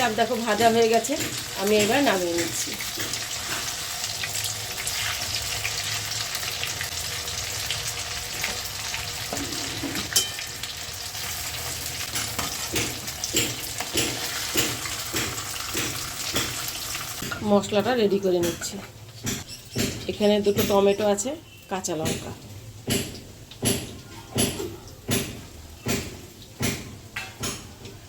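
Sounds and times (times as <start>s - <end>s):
frying sizzle with crackling: 0.0s - 28.0s.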